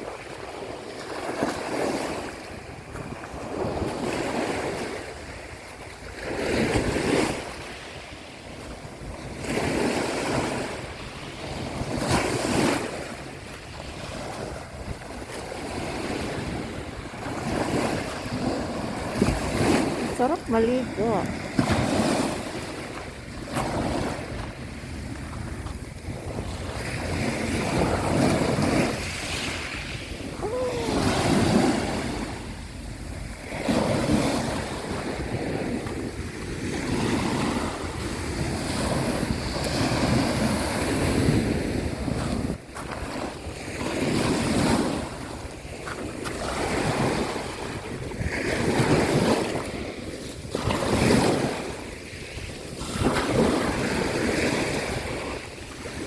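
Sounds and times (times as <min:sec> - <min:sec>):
sea waves breaking on shore: 0:00.0 - 0:56.0
wind buffeting microphone: 0:00.0 - 0:56.0.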